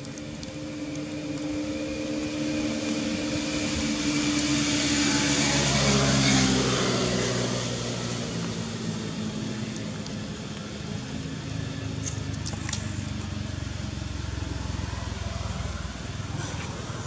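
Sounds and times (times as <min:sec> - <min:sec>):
engine low hum: 0:00.0 - 0:17.0.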